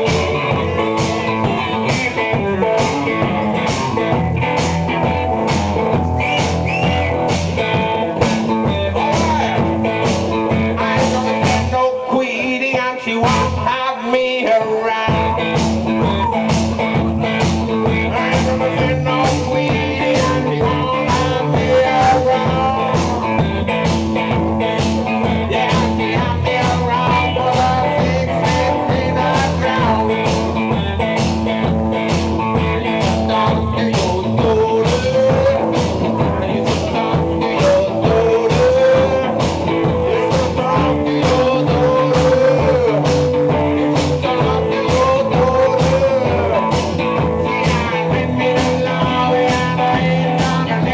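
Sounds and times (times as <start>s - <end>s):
steady bass drum beat: 0.0s - 11.9s, 12.6s - 13.8s, 14.8s - 50.9s
electric guitar: 0.0s - 50.9s.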